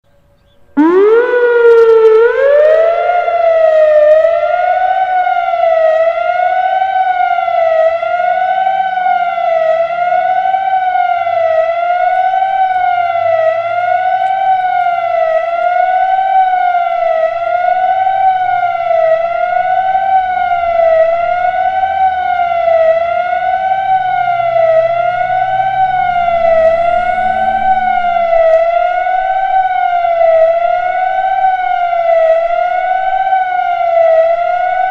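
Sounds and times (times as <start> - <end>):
wavering emergency siren: 0.1 - 34.9.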